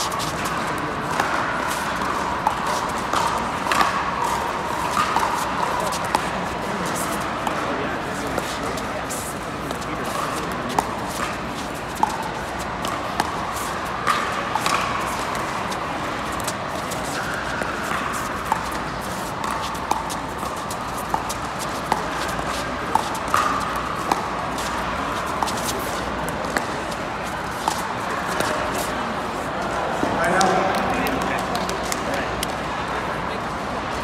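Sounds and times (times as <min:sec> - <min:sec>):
indoor hall noise: 0:00.0 - 0:34.0.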